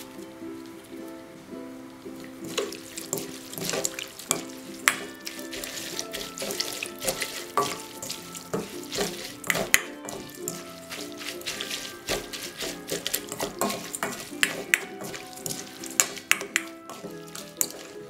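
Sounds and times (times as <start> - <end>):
soft background music: 0.0 - 18.0
spatula tossing food in metal bowl: 2.4 - 18.0.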